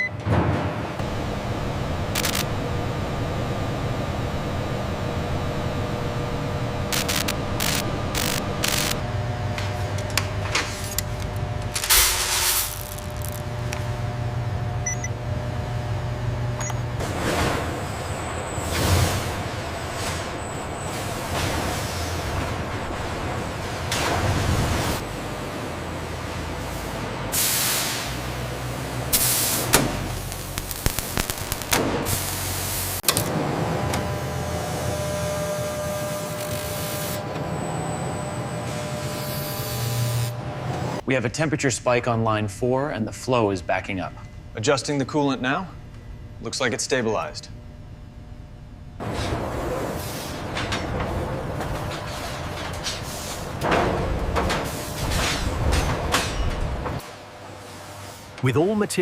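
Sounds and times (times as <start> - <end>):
machine hum: 0.0 - 58.4.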